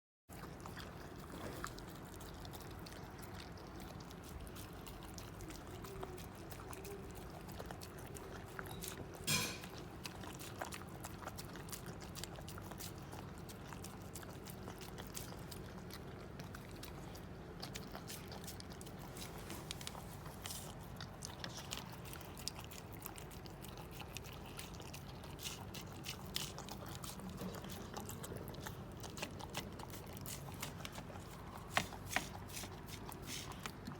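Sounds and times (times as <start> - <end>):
dog chewing and eating: 0.3 - 33.9.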